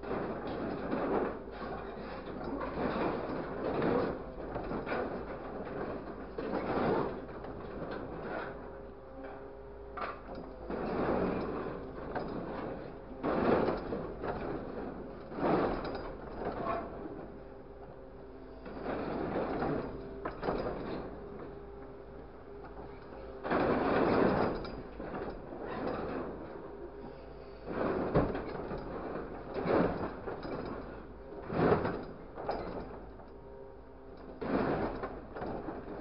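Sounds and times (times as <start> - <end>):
engine and pump hum: 0.0 - 36.0.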